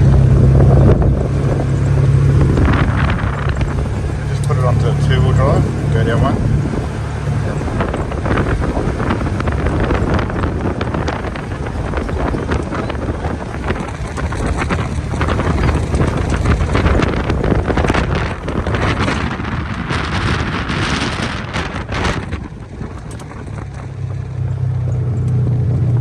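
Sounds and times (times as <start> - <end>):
vehicle engine rumbling: 0.0 - 26.0
wind buffeting microphone: 0.0 - 26.0.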